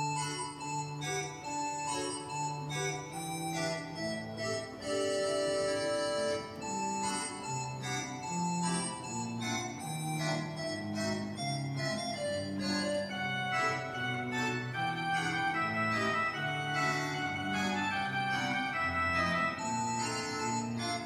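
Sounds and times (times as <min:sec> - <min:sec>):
church pipe organ playing: 0:00.0 - 0:21.0.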